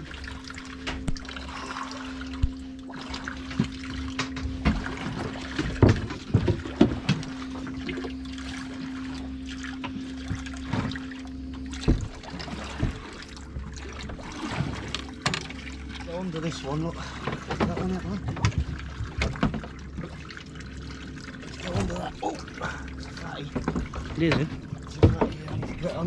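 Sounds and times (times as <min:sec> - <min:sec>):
steady hum: 0:00.0 - 0:26.0
water sloshing against hull: 0:00.0 - 0:26.0.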